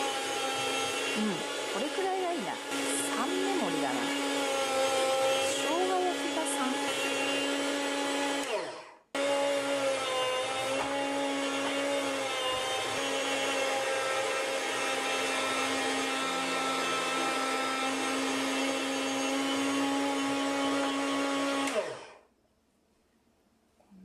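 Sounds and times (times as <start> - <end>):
food slicer motor hum: 0.0 - 22.2.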